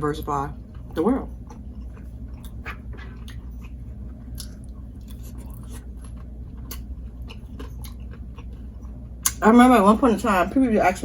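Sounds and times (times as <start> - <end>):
steady low hum: 0.0 - 11.0
close-miked chewing: 0.6 - 9.4.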